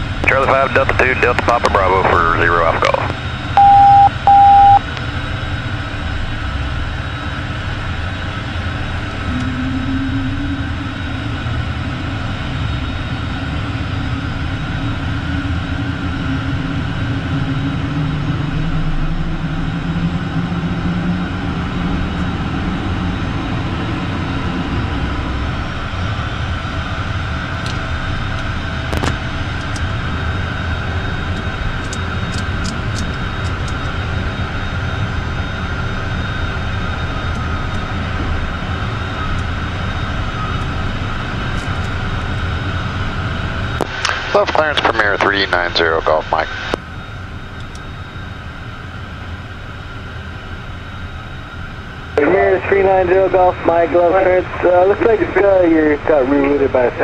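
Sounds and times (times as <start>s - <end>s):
jet engines roaring with whine: 0.0s - 57.0s.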